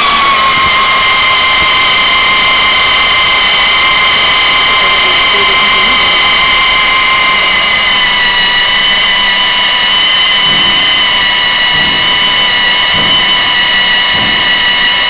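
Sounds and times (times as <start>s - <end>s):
drill motor high-pitched whine: 0.0s - 15.0s.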